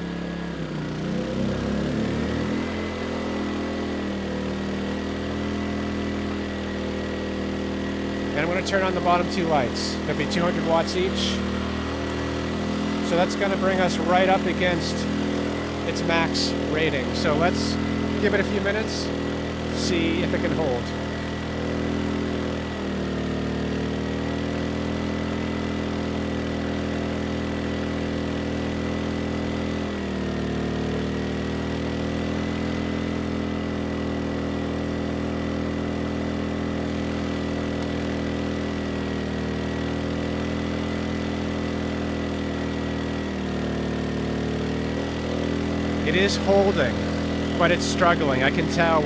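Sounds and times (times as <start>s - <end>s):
generator engine running under load: 0.0s - 49.0s.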